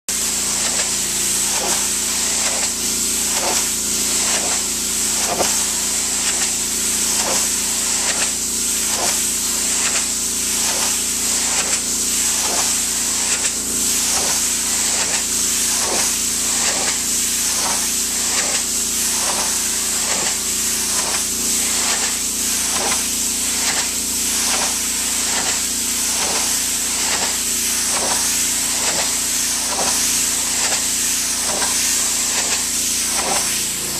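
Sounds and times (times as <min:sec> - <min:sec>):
pressure washer jet hissing: 0:00.1 - 0:33.9
pressure washer motor droning: 0:00.1 - 0:33.9.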